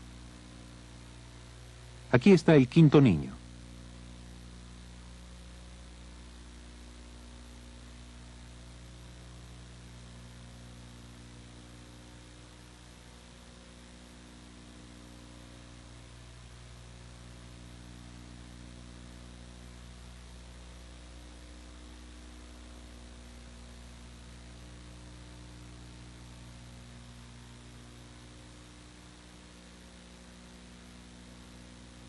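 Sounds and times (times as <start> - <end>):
constant hiss: 0.0 - 32.0
electrical mains hum: 0.0 - 32.0.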